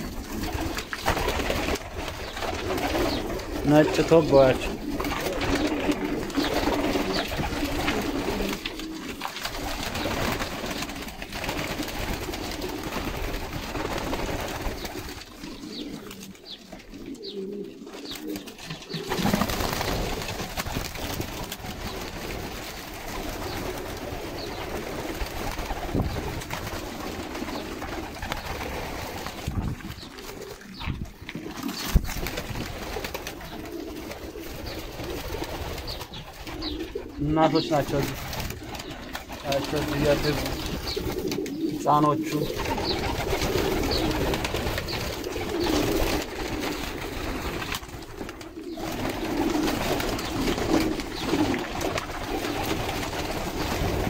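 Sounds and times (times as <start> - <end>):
pigeons cooing: 0.0 - 54.0
wings flapping: 0.0 - 54.0.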